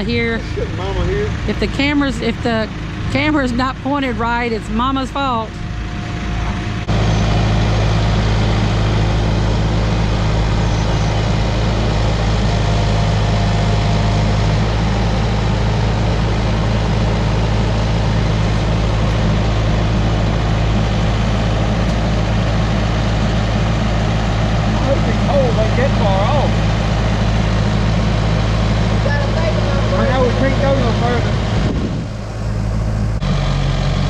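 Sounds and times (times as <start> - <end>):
heavy engine running: 0.0 - 34.0.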